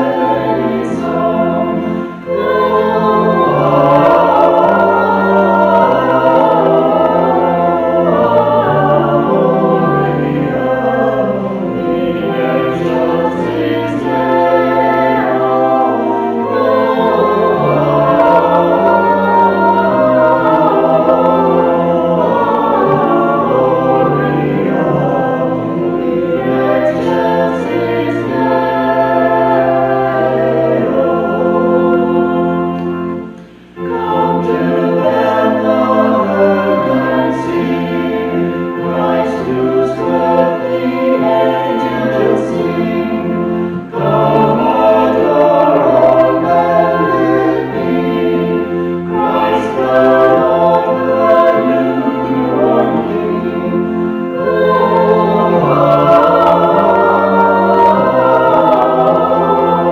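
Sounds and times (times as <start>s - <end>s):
choir singing a carol: 0.0s - 59.9s.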